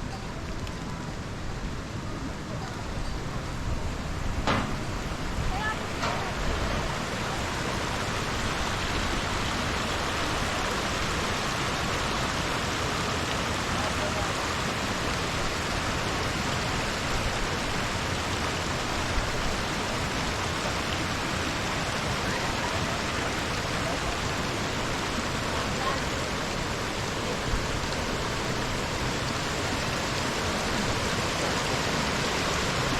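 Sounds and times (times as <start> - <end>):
spring water rushing: 1.1 - 32.9.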